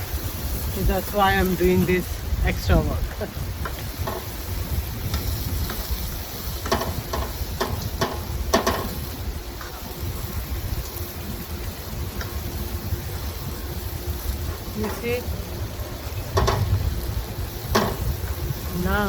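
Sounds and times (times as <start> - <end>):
meat sizzling on a grill: 0.0 - 19.0.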